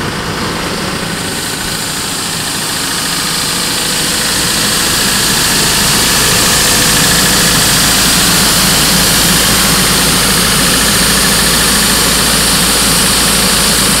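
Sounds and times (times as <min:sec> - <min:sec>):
air compressor diesel engine running: 0:00.0 - 0:14.0.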